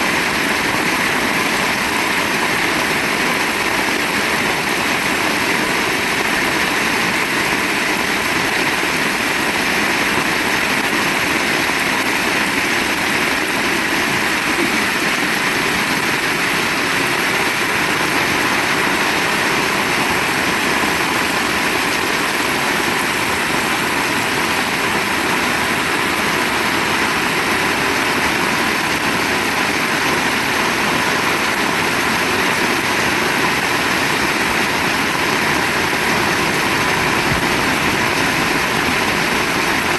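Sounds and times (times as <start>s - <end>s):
heavy rain pouring: 0.1s - 39.9s.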